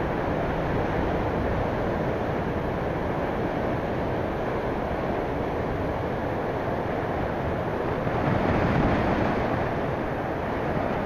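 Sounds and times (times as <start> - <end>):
surf waves breaking: 0.0 - 11.0
wind buffeting microphone: 0.0 - 11.0.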